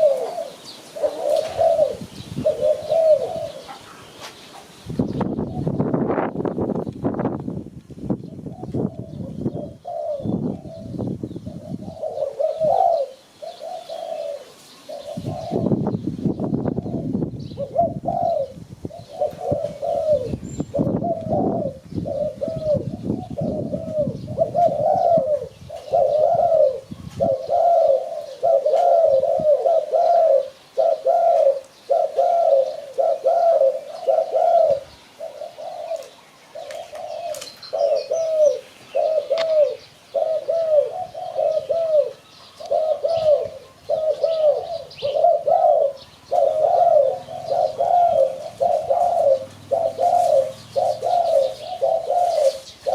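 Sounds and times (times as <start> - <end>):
dove cooing: 0.0 - 6.3, 8.2 - 16.0, 16.6 - 52.9.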